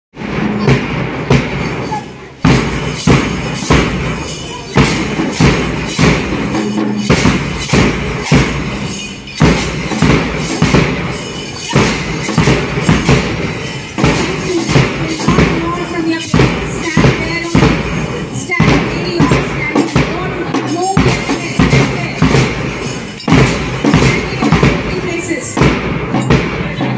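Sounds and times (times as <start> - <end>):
bass drums thumping: 0.2 - 1.8, 4.8 - 26.9
snare drum: 0.2 - 26.9
hand cymbals clashing: 0.4 - 26.9.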